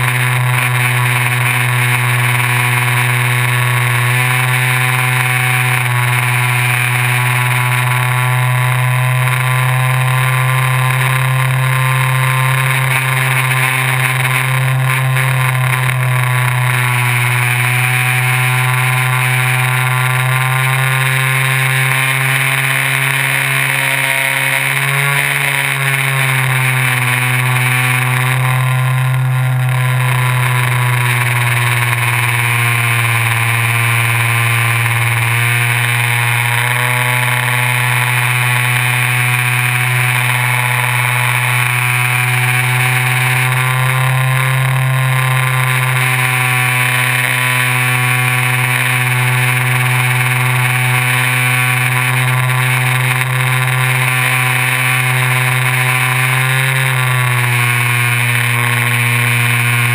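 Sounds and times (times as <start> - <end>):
model plane motor buzzing: 0.0 - 59.9.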